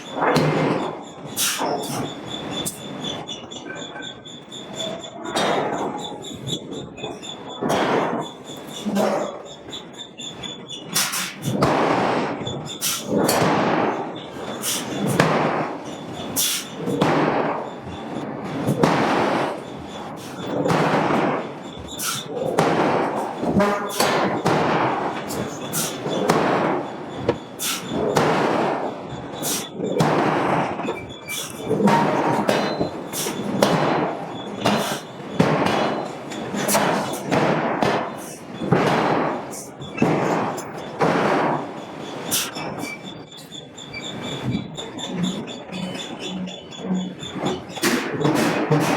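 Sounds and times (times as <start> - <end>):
forging hammer striking steel: 0.0 - 48.9.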